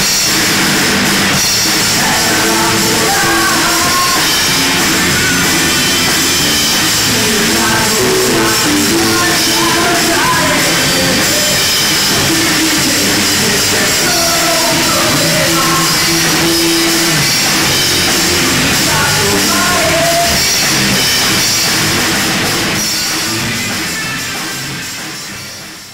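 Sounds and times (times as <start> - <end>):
drum kit: 0.0 - 25.9
electric guitars: 0.0 - 25.9.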